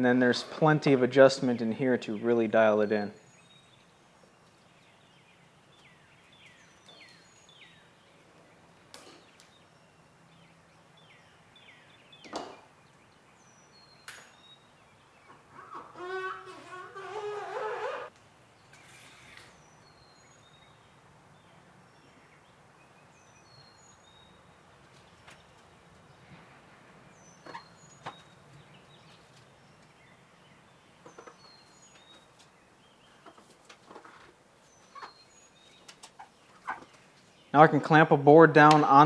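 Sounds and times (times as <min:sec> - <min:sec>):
songbird chirping: 0:00.0 - 0:39.0.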